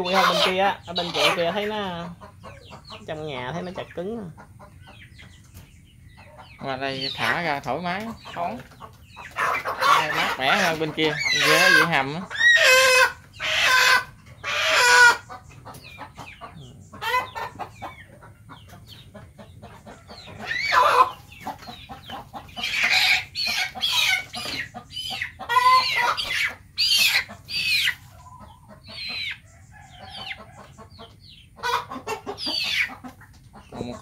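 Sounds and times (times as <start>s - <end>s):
chickens clucking and squawking: 0.0s - 34.0s.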